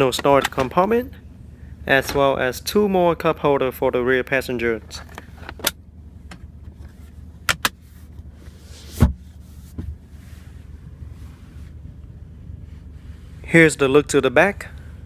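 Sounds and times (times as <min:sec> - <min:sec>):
low cabin hum: 0:00.0 - 0:15.0.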